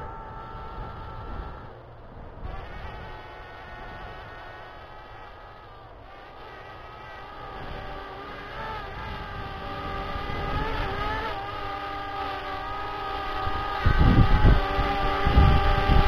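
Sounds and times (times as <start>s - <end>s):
drone rotors buzzing: 0.0s - 16.0s.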